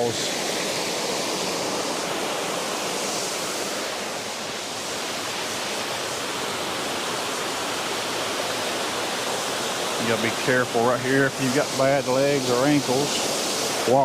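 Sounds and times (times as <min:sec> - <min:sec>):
waterfall rushing onto rocks: 0:00.0 - 0:14.0.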